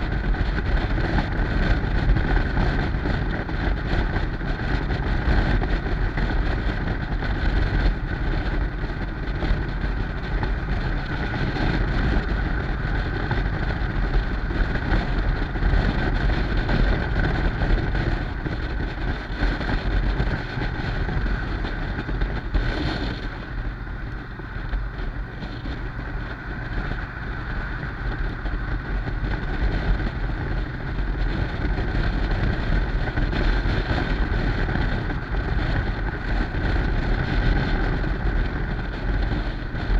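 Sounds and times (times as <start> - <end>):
motorcycle engine rumble: 0.0 - 39.9
wind buffeting microphone: 0.0 - 39.9.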